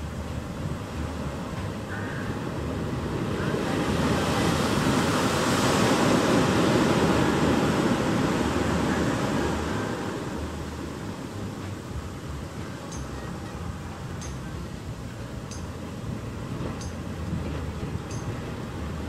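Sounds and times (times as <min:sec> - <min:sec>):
surf wave breaking and washing: 0:00.0 - 0:19.0.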